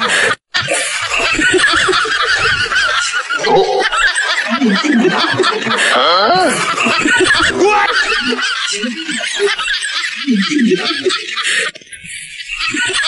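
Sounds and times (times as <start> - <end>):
high cackling laughter: 0.0 - 13.0.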